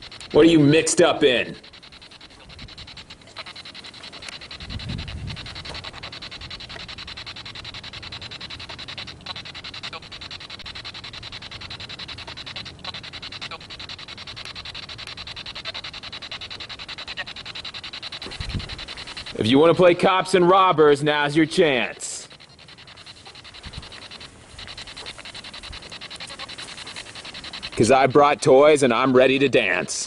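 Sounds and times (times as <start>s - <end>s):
recording hiss and crackle: 0.0s - 30.0s.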